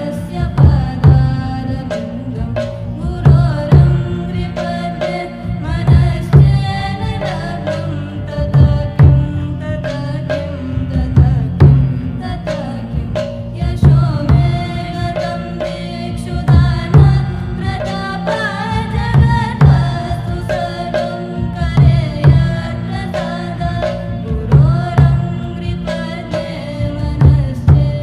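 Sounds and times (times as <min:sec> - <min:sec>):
person singing a devotional song: 0:00.0 - 0:28.0.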